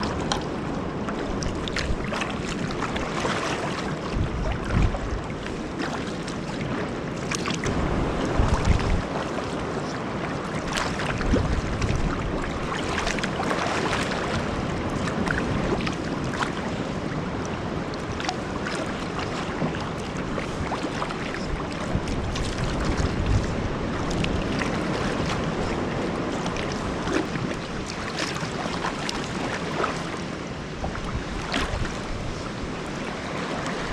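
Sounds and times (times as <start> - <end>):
sea water and waves rushing: 0.0 - 33.9
wind rumbling on microphone: 0.0 - 33.9.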